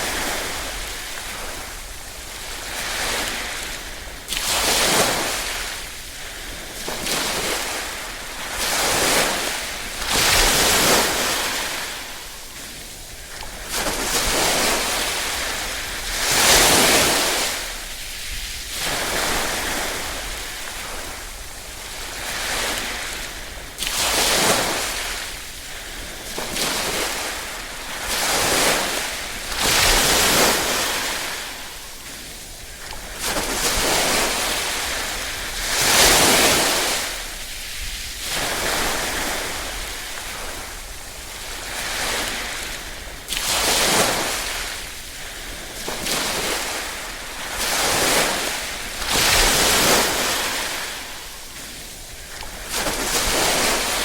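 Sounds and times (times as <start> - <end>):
small waves lapping on shore: 0.0 - 54.0.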